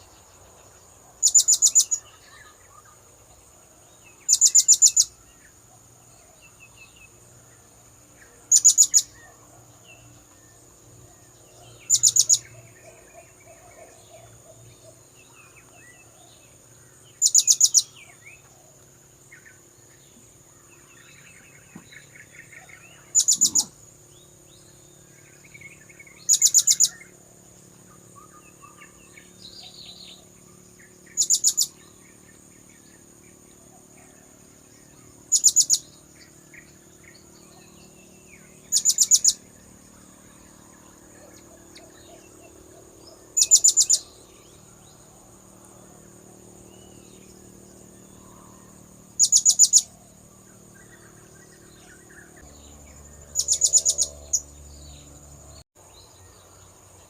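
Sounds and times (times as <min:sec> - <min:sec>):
faint bird chirps: 0:00.0 - 0:57.0
steady high whine: 0:00.0 - 0:57.0.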